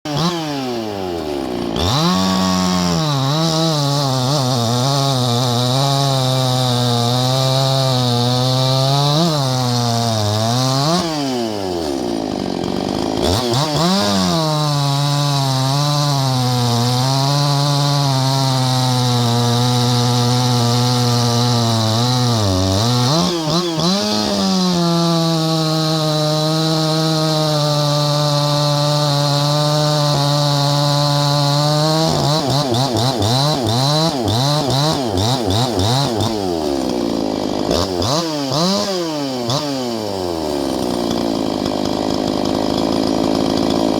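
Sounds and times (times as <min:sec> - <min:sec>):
chainsaw revving: 0:00.0 - 0:43.9.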